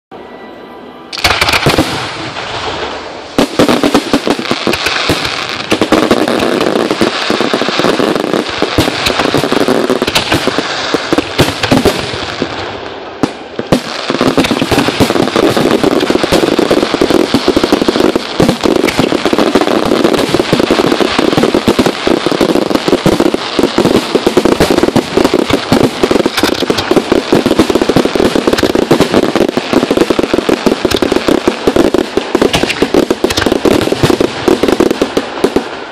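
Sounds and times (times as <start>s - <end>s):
fireworks crackling and popping: 1.1s - 35.9s.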